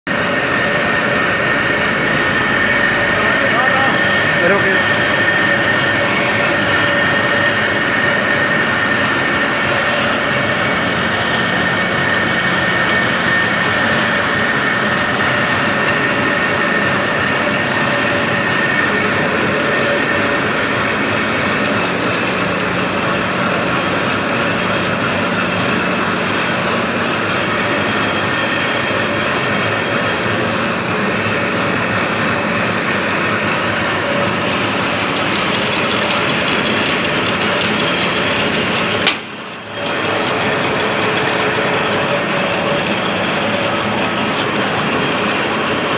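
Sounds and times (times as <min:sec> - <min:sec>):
drilling machine running: 0:00.1 - 0:45.9
steady high whine: 0:00.1 - 0:45.9.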